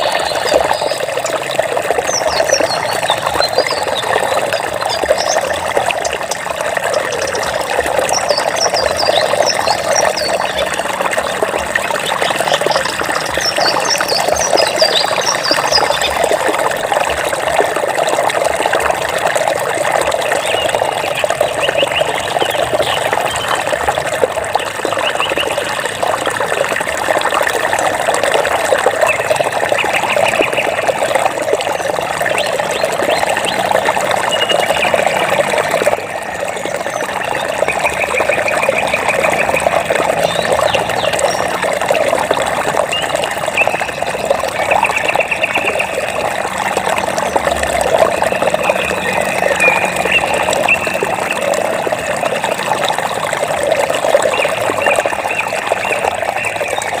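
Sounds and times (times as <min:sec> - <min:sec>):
water flowing: 0:00.0 - 0:57.0.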